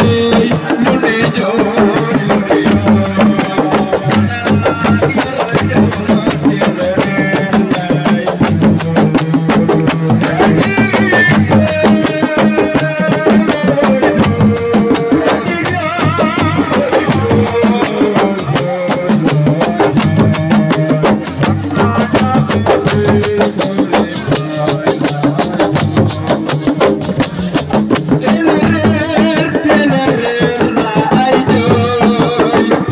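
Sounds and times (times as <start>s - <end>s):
fast dense drumming: 0.0s - 32.9s.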